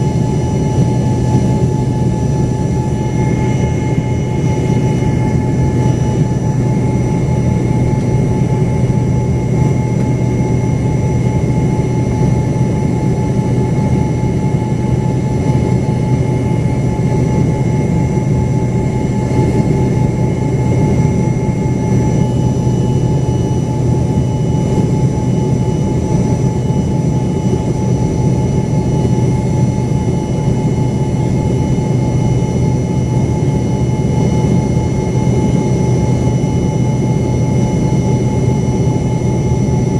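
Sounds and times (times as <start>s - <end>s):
jet cabin rumble: 0.0s - 39.9s
jet engine high whine: 0.0s - 39.9s.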